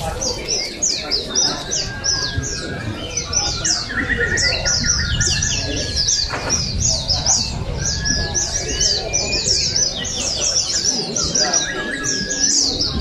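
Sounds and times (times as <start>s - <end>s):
birds chirping in chorus: 0.0s - 13.0s.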